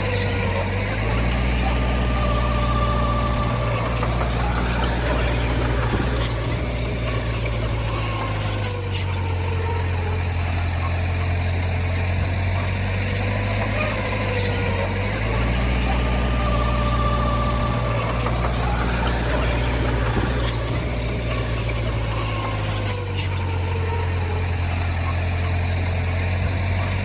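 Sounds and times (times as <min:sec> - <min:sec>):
heavy diesel machinery engine: 0:00.0 - 0:27.0.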